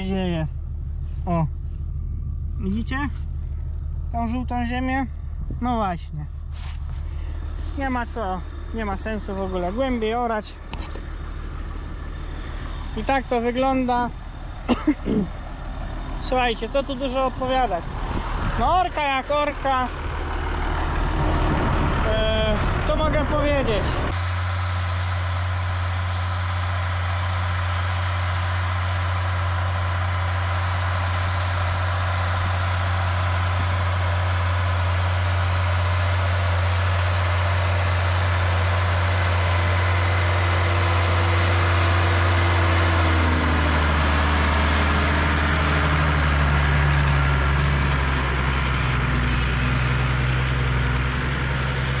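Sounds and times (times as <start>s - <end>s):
tractor engine droning: 0.0s - 52.0s.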